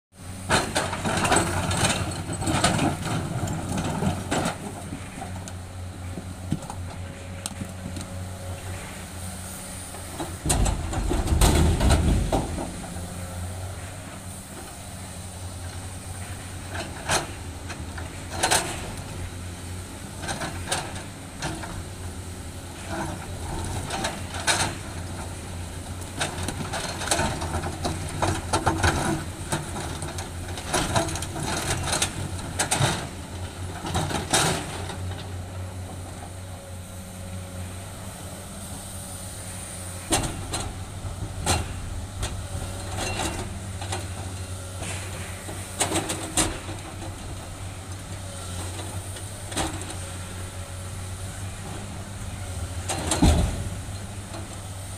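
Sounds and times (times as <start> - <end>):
excavator diesel engine: 0.2 - 54.9.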